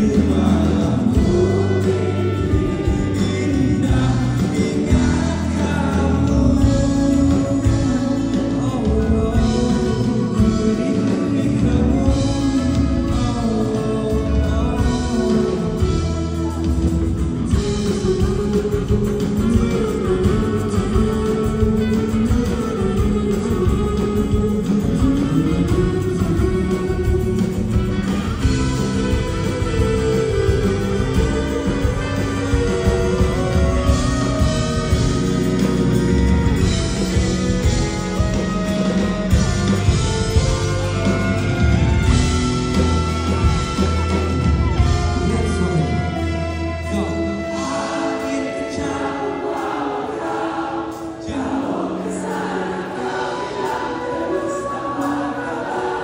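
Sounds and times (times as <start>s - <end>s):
acoustic guitar: 0.0s - 56.0s
bass guitar: 0.0s - 56.0s
drum kit: 0.0s - 56.0s
keyboard: 0.0s - 56.0s
live rock band playing: 0.0s - 56.0s.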